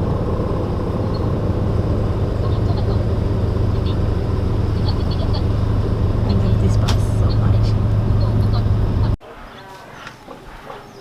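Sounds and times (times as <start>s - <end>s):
bus engine and road rumble: 0.0s - 9.2s.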